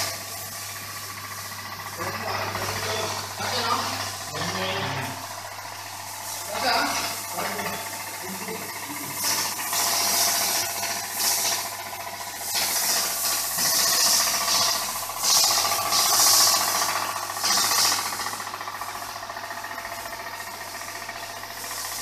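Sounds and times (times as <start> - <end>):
pump motor humming: 0.0 - 22.0.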